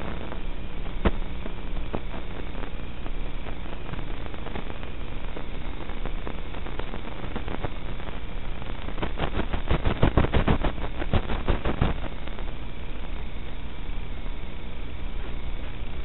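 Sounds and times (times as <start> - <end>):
crackling radio clicks: 0.0 - 16.0
static hiss: 0.0 - 16.0.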